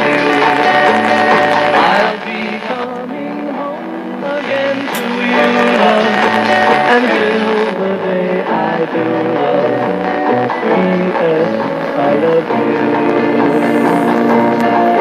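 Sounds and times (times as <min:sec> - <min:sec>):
music from car radio: 0:00.0 - 0:15.0.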